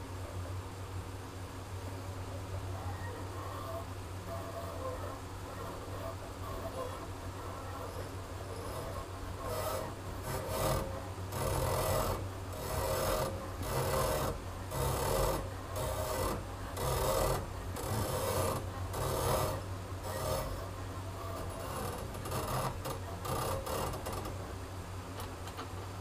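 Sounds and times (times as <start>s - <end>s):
steady low hum: 0.0s - 26.0s
rasping rub of turning rod: 3.5s - 24.6s.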